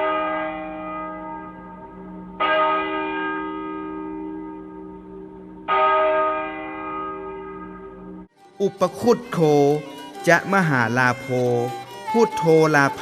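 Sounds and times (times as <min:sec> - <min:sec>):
large temple bell ringing: 0:00.0 - 0:13.0.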